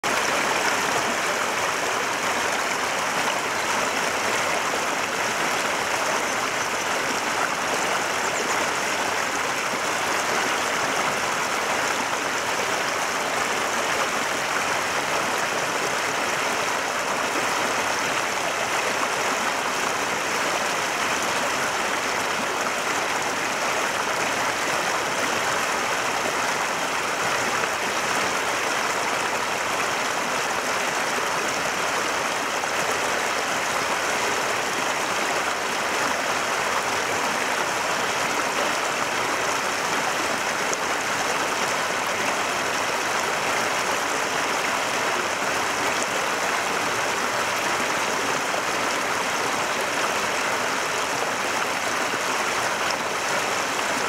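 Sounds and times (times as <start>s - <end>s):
stream rushing over boulders: 0.0s - 54.0s.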